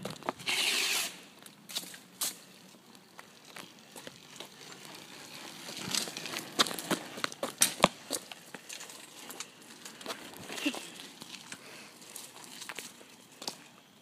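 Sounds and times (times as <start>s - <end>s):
bike rolling over gritty asphalt: 0.0s - 14.0s.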